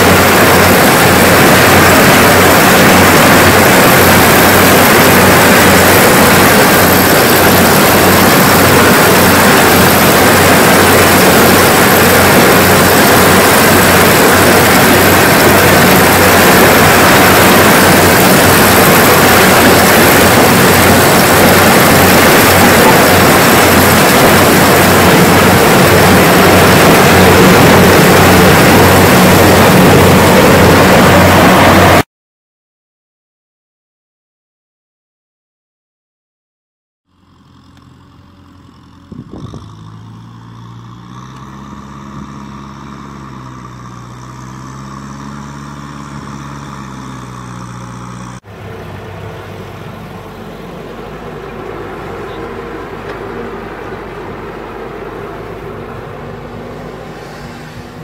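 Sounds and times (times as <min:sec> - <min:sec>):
combine harvester running: 0:00.0 - 0:32.0, 0:37.1 - 0:58.0.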